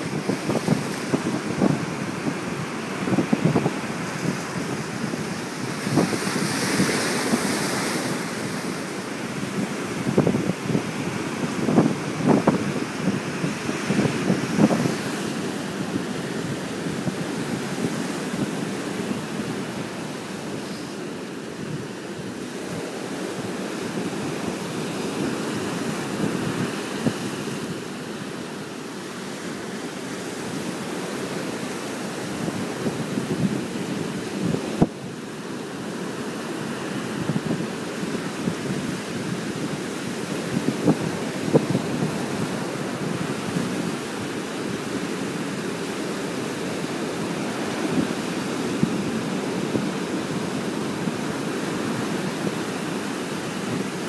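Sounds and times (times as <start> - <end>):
wind gusting on microphone: 0.0 - 54.0.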